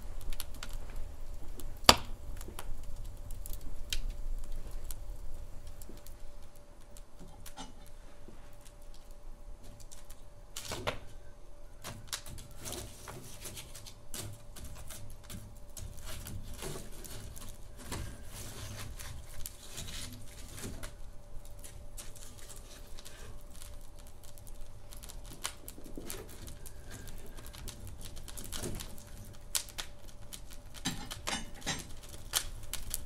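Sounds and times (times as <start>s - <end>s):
faint steady hum: 0.0s - 33.0s
low rumble of flames: 0.0s - 33.0s
wood fire crackling and popping: 0.0s - 33.0s.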